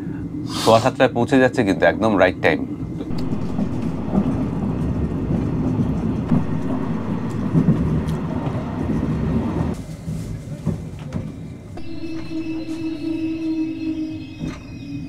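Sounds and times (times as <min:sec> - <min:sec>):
train rolling and rattling: 0:02.9 - 0:15.0.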